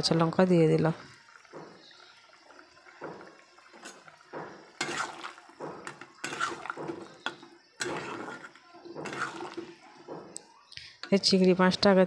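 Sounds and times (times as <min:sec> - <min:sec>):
gravy bubbling: 0:00.0 - 0:10.7
spatula stirring gravy: 0:01.2 - 0:11.2.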